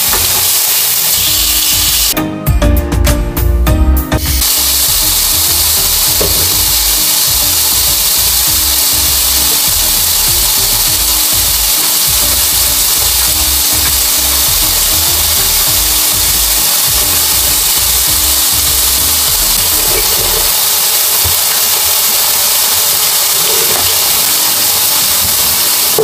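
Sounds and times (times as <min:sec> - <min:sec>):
meat sizzling on grill pan: 0:00.0 - 0:02.2, 0:04.2 - 0:26.0.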